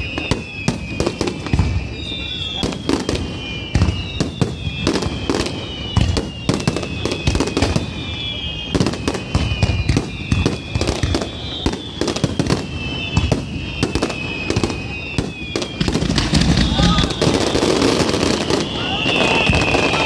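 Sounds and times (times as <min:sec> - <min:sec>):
fireworks bangs and crackles: 0:00.0 - 0:20.0
fireworks whistles: 0:00.0 - 0:20.0.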